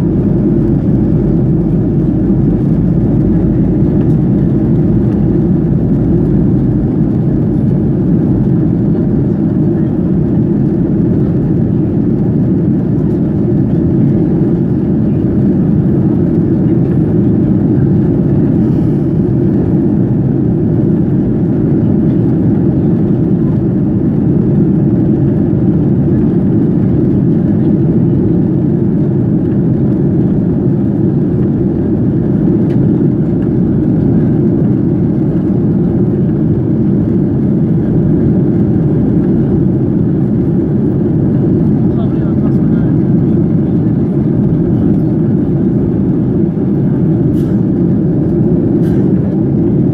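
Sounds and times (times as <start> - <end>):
airplane cabin jet engine rush: 0.0 - 49.9.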